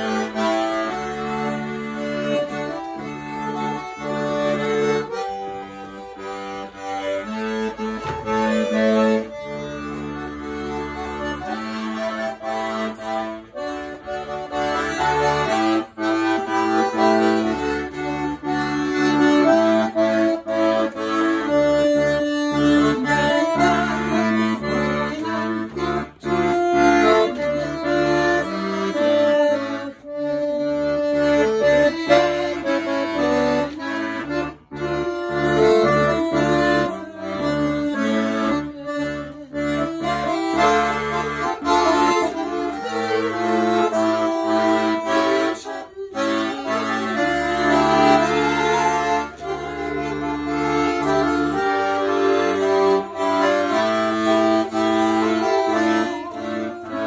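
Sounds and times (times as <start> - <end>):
accordion playing a tune: 0.0 - 57.0.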